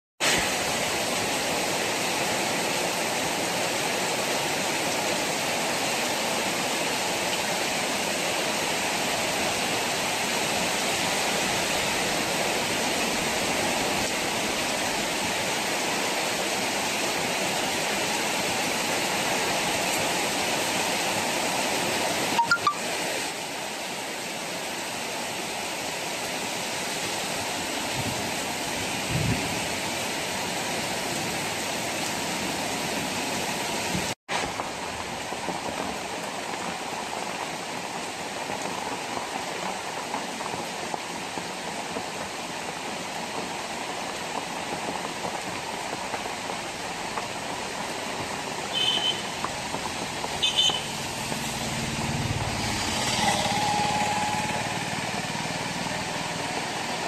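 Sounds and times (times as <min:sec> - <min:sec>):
heavy rain on road and roofs: 0:00.2 - 0:57.0.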